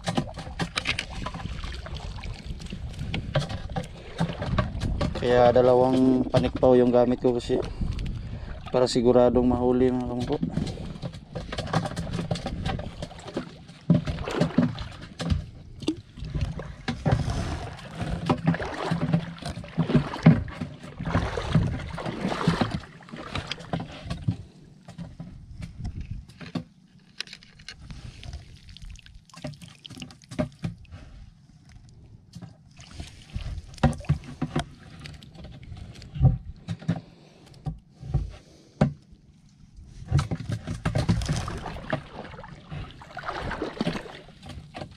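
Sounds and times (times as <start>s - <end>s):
water splashing and sloshing: 0.0s - 44.9s.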